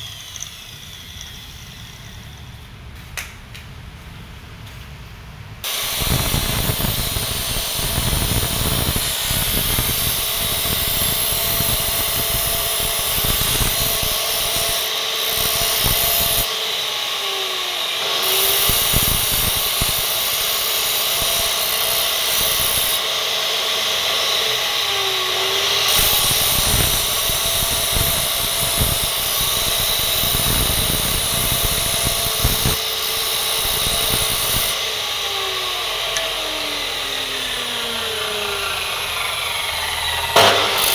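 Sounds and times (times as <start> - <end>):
cut-off saw grinding steel: 0.0 - 2.8, 5.6 - 40.9.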